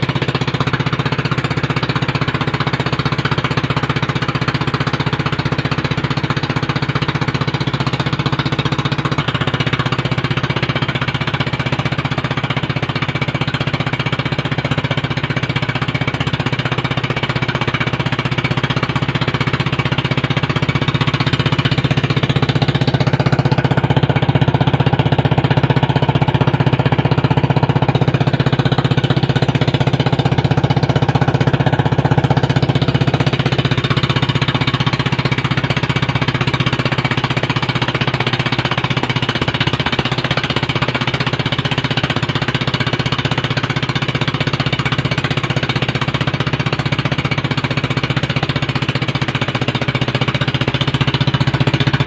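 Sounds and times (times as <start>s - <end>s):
boat engine rattling: 0.0s - 52.0s.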